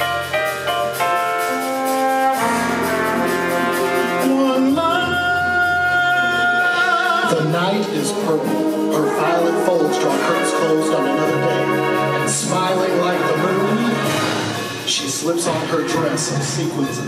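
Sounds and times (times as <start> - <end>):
concert band brass chords: 0.0 - 17.0.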